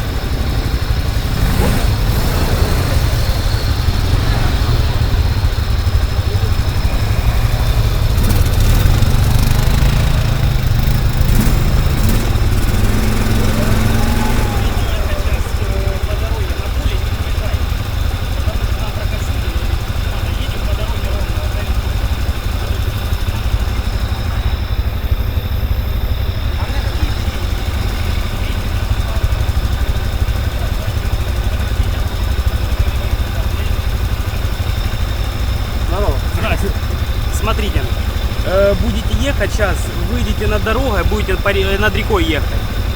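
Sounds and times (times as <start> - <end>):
vehicle engine rumbling: 0.0 - 42.9.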